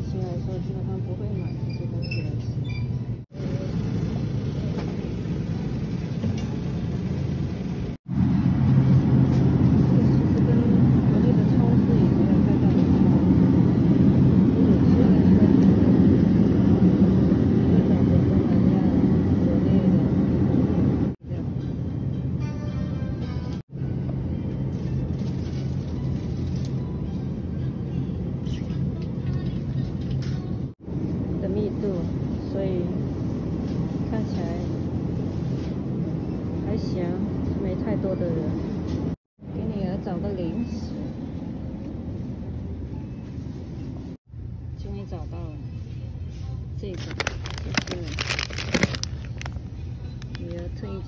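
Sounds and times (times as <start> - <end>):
supermarket background rumble: 0.0 - 51.0.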